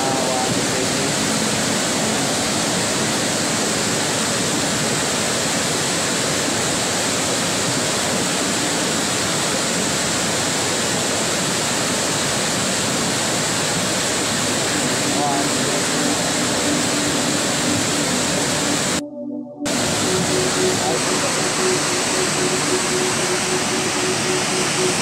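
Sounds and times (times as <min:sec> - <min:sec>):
flood water rushing: 0:00.0 - 0:19.0, 0:19.7 - 0:25.0.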